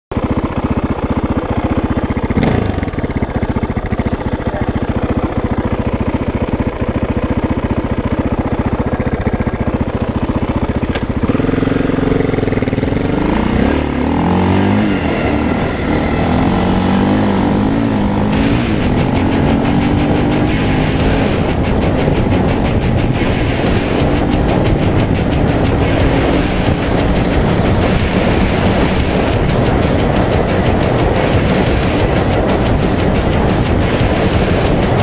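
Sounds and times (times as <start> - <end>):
motorcycle engine thumping: 0.1 - 14.5, 15.6 - 35.0
motorcycle accelerating: 0.1 - 35.0.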